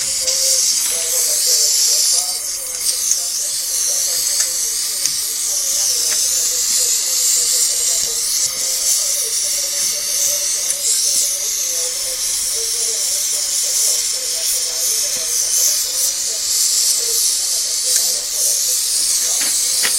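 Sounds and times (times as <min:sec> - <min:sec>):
gas torch flame hissing: 0:00.0 - 0:19.9.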